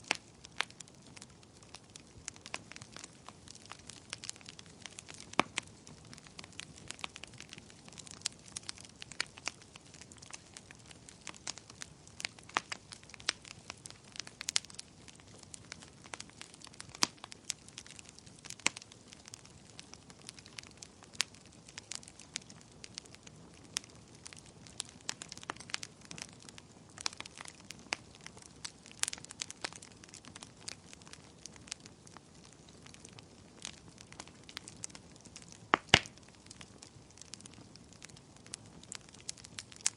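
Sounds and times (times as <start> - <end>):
campfire wood crackling: 0.0 - 39.9
low steady hiss: 0.0 - 39.9.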